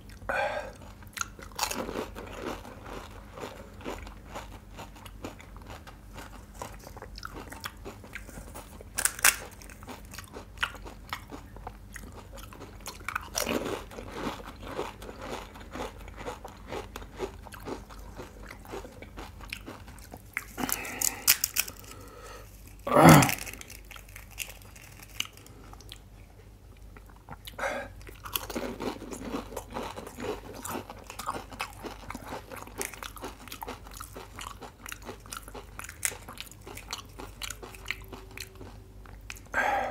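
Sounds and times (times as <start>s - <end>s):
crisp shells crunching and chewing: 0.0s - 39.6s.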